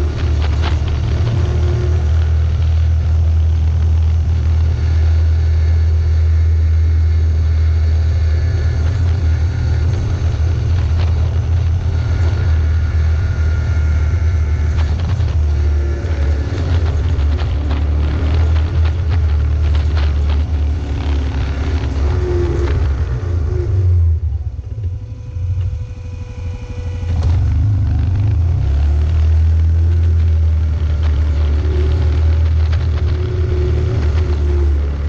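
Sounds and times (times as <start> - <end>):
vehicle engine rumbling: 0.0 - 35.0.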